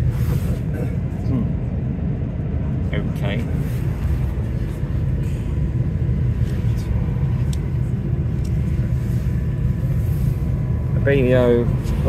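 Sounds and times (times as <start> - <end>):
bus engine low rumble: 0.0 - 12.0.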